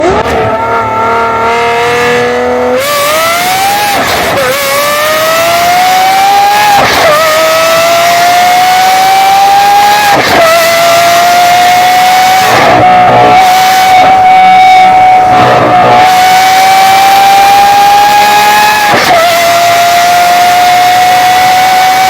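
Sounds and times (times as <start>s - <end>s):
car exhaust accelerating through gears: 0.0s - 22.0s.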